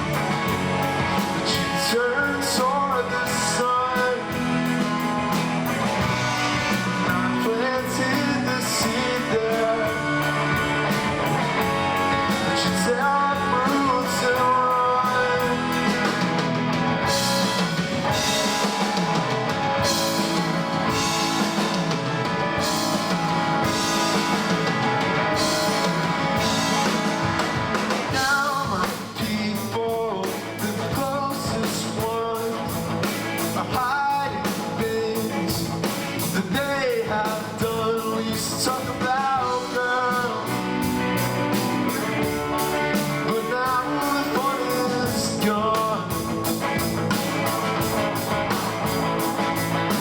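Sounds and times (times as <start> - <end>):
bass guitar: 0.0 - 50.0
drums: 0.0 - 50.0
electric guitars: 0.0 - 50.0.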